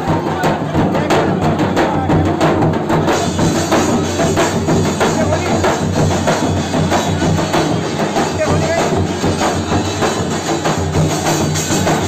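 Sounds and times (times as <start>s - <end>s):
jingling percussion: 0.0s - 12.0s
procession music with drums: 0.0s - 12.0s.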